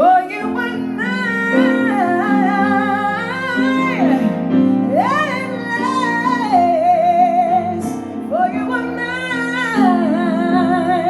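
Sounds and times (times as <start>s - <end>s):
piano accompaniment: 0.0s - 11.0s
woman singing: 0.0s - 11.0s.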